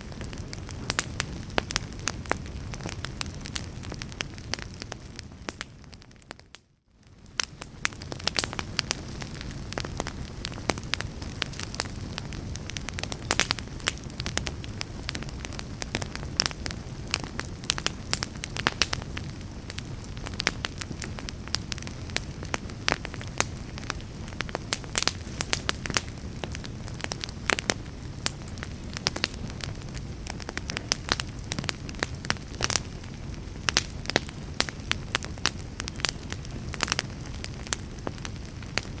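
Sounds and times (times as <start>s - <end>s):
low rumble of flame: 0.0s - 39.0s
wood fire crackling and popping: 0.0s - 39.0s.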